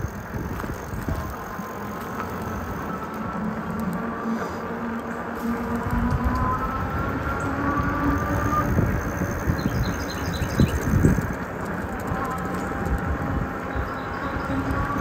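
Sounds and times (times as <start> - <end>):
electric motor whine: 0.0 - 15.0
road rumble: 0.0 - 15.0
wind buffeting microphone: 0.0 - 15.0.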